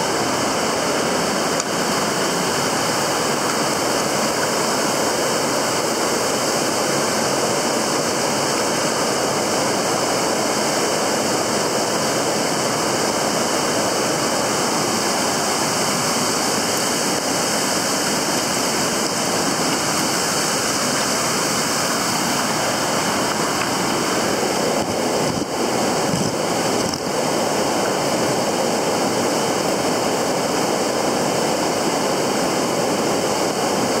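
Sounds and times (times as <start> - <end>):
stream water running over rocks: 0.0 - 34.0.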